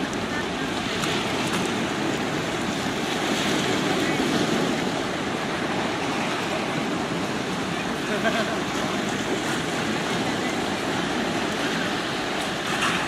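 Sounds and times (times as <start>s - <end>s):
small waves washing over pebbles: 0.0s - 13.0s.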